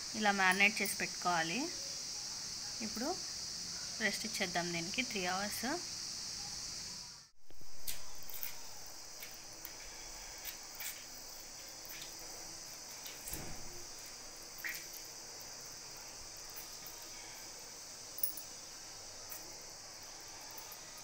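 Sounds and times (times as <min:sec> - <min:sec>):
high-pitched insect-like hiss: 0:00.0 - 0:21.0.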